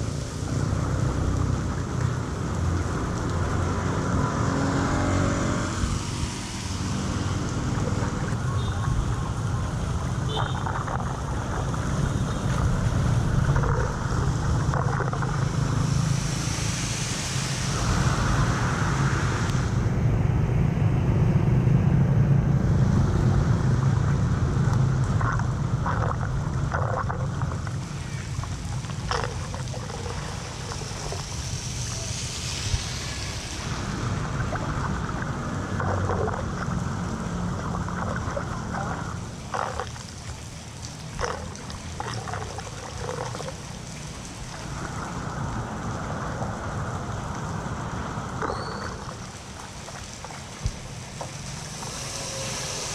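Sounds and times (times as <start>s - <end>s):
floodwater rushing into drain: 0.0s - 52.9s
wind rumbling on microphone: 0.0s - 52.9s.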